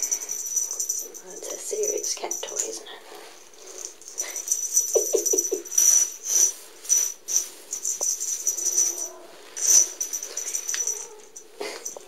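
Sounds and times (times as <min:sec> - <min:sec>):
feathers rustling: 0:00.0 - 0:12.0.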